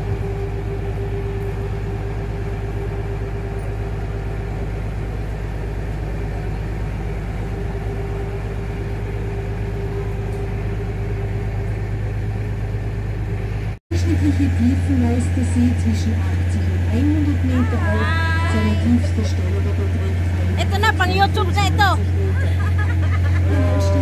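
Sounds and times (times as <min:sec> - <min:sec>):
boat engine droning: 0:00.0 - 0:24.0
steady hum: 0:00.0 - 0:24.0.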